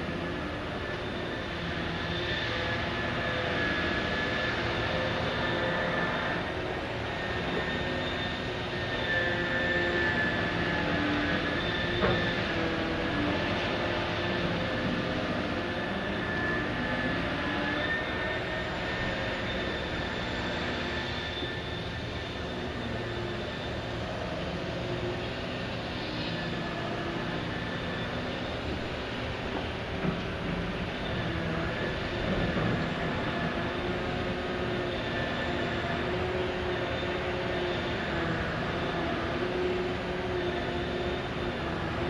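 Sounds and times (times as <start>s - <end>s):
engine drone: 0.0s - 42.0s
high steady whine: 0.0s - 42.0s.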